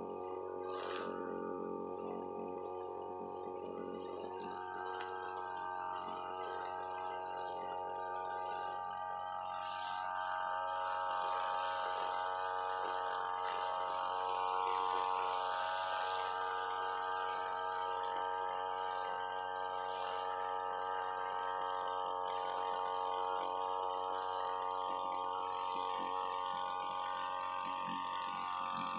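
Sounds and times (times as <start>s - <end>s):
brush cutter engine running: 0.0s - 28.9s
nylon line cutting grass: 0.0s - 28.9s.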